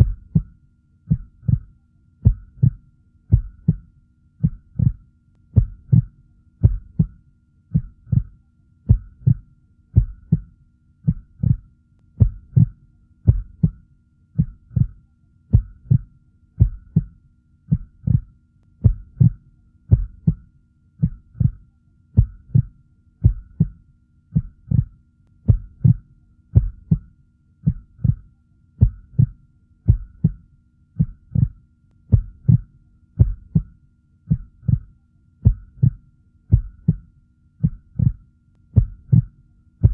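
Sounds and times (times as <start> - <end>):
heartbeat thumps: 0.0 - 5.0, 5.6 - 13.8, 14.4 - 21.6, 22.2 - 38.2, 38.8 - 39.9
faint steady hum: 0.0 - 39.9.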